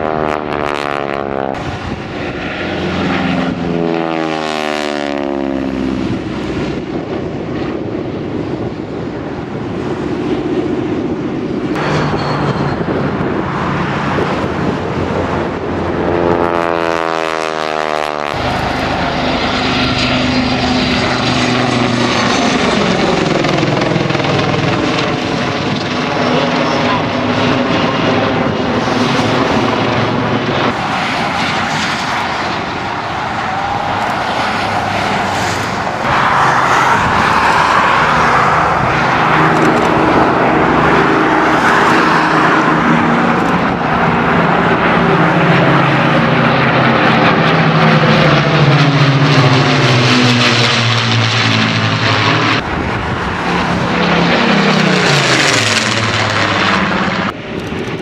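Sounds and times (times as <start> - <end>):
drone of piston aircraft engines: 0.0 - 58.0
helicopter flying overhead: 0.0 - 58.0
propeller plane passing overhead: 0.0 - 58.0.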